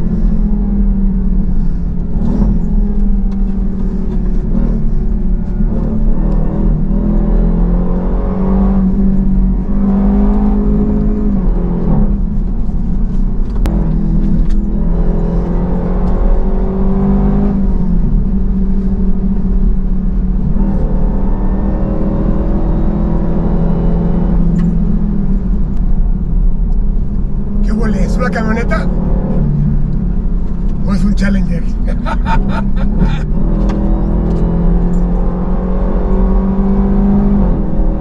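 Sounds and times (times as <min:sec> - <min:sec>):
car engine accelerating hard: 0:00.0 - 0:38.0.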